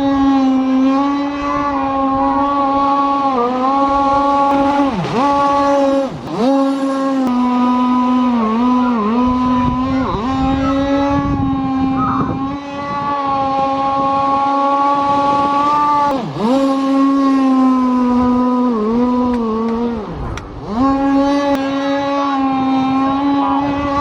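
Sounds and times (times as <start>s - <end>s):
model boat engine high revs: 0.0s - 24.0s.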